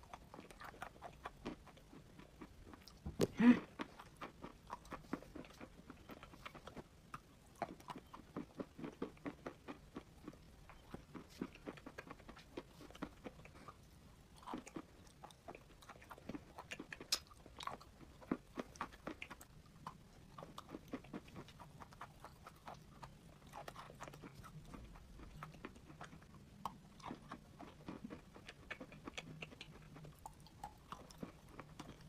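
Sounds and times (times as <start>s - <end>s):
person chewing chalk: 0.0s - 32.0s.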